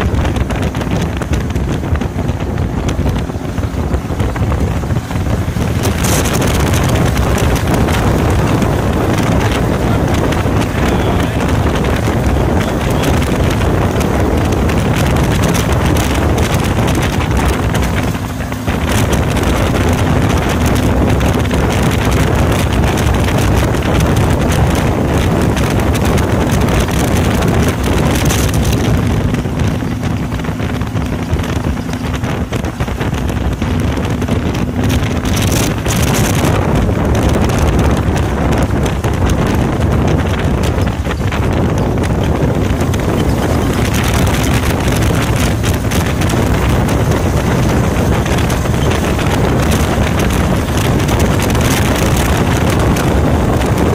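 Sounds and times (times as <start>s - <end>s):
car engine running: 0.0s - 53.9s
wind buffeting microphone: 0.0s - 53.9s.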